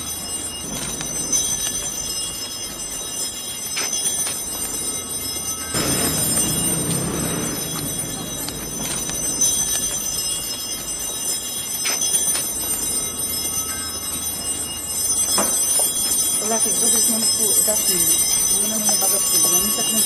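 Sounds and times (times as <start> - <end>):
bells ringing: 0.0 - 20.0.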